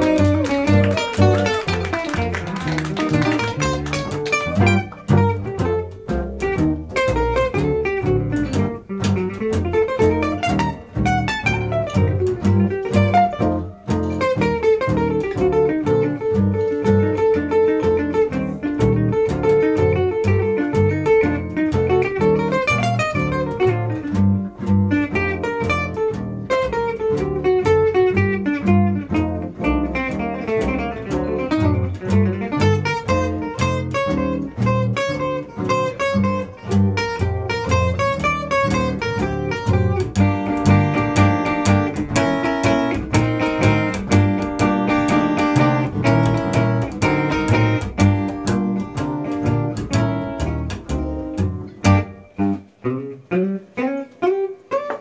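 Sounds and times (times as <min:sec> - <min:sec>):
acoustic guitar: 0:00.0 - 0:55.0
plucked double bass: 0:00.0 - 0:55.0.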